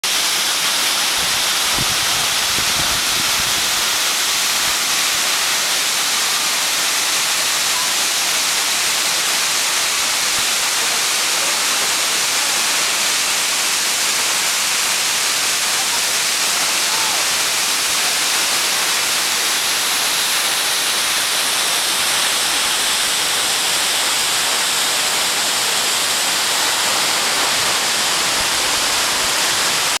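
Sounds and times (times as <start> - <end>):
waterfall pouring into pool: 0.0 - 30.0.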